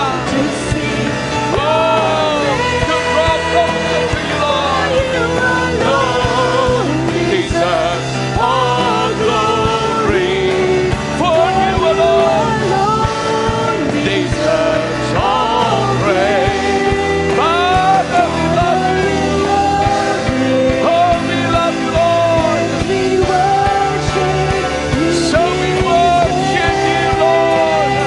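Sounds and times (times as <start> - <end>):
person singing: 0.0 - 28.0
worship band playing: 0.0 - 28.0.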